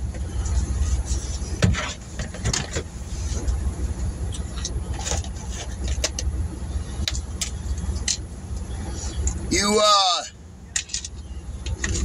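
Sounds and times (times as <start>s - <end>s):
vehicle idling rumble: 0.0s - 12.0s.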